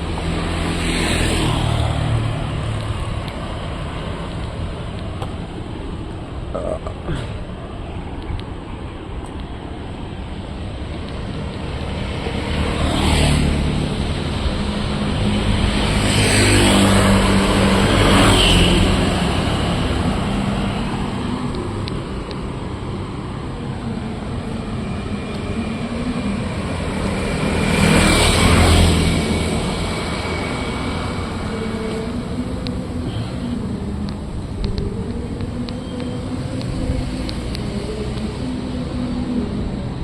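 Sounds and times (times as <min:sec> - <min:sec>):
engine hum: 0:00.0 - 0:40.0
vehicles passing: 0:00.0 - 0:40.0.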